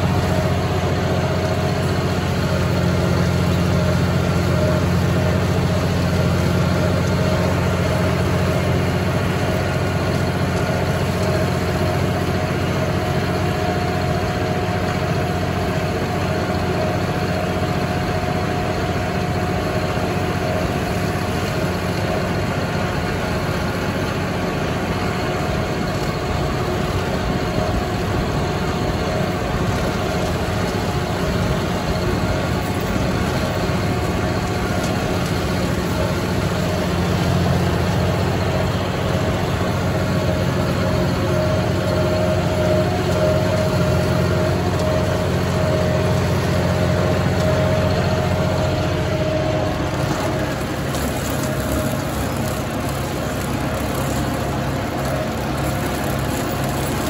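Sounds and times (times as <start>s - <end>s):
rotary cutter whine: 0.0s - 57.0s
tractor diesel engine drone: 0.0s - 57.0s.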